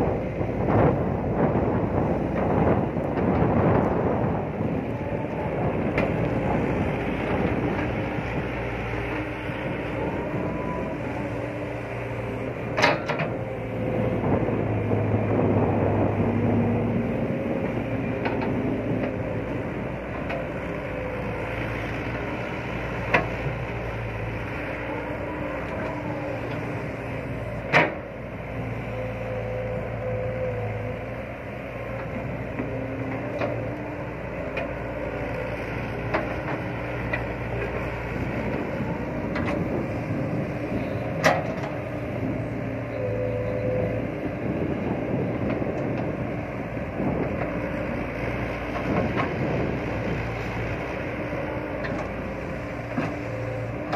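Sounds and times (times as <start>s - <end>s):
excavator diesel engine working: 0.0s - 53.9s.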